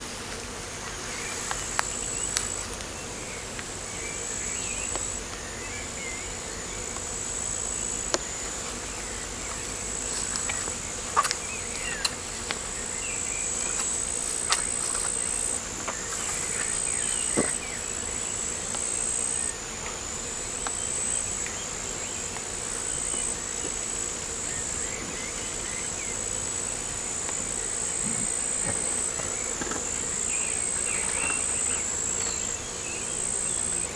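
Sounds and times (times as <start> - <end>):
high-pitched insect trill: 1.1 - 33.9.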